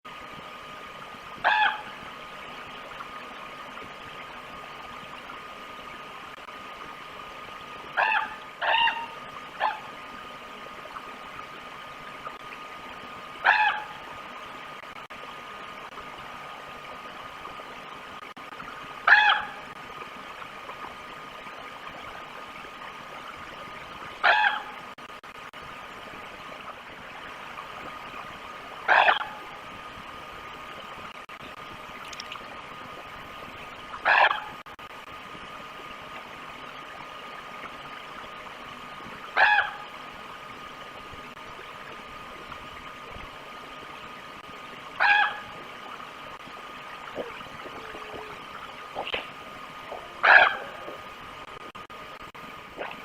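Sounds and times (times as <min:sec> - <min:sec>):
faint hum: 0:00.1 - 0:53.0.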